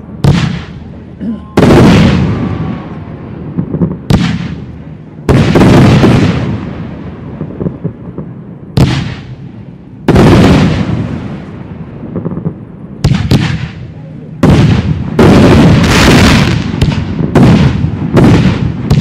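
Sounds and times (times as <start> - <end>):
fireworks bursting with loud bangs: 0.0 - 19.0
rumble after fireworks bangs: 0.0 - 19.0.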